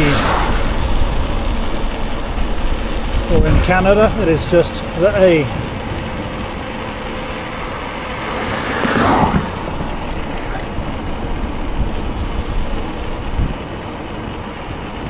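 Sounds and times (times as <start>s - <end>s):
bicycle road noise: 0.0s - 15.0s
motor vehicle passing: 0.0s - 15.0s
wind rumble on microphone: 0.0s - 15.0s.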